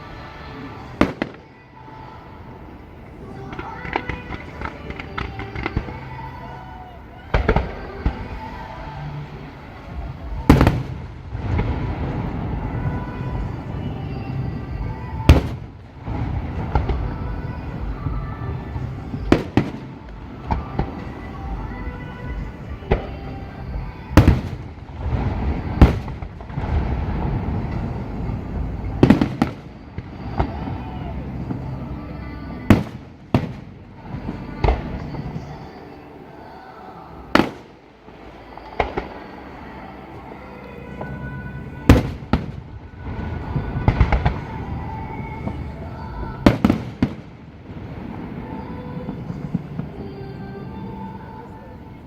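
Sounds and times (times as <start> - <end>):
fireworks bangs: 0.0 - 52.0
low rumble: 0.0 - 52.0.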